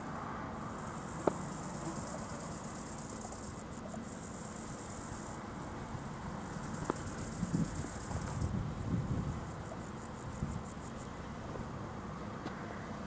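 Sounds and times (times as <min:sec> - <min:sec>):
low steady background noise: 0:00.0 - 0:13.0
insect high-pitched buzz: 0:00.5 - 0:11.7.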